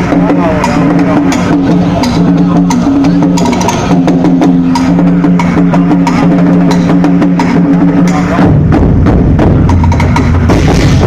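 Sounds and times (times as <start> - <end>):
drum and percussion strikes: 0.0 - 11.0.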